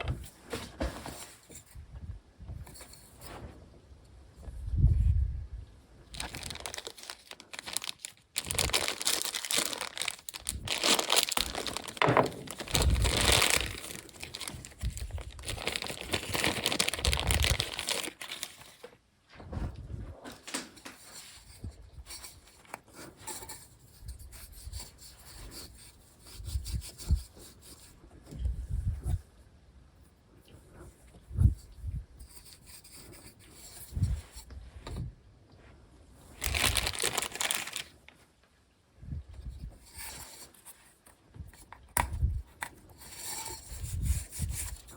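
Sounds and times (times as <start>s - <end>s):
rubbing and crinkling handling: 0.0s - 1.8s, 6.0s - 29.2s, 30.6s - 38.4s, 39.4s - 44.9s.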